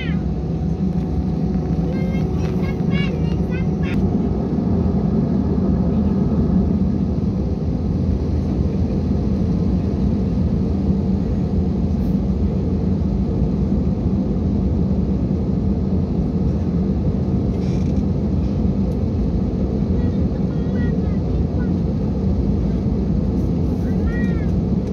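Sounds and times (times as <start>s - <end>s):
jet engines rumbling while taxiing: 0.0s - 24.9s.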